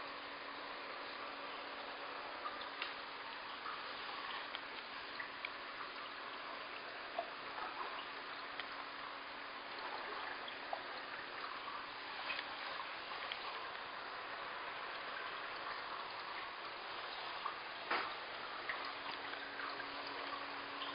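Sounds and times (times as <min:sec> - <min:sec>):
faint hum: 0:00.0 - 0:20.9
water drips and plinks: 0:00.0 - 0:20.9
water trickling: 0:00.0 - 0:20.9.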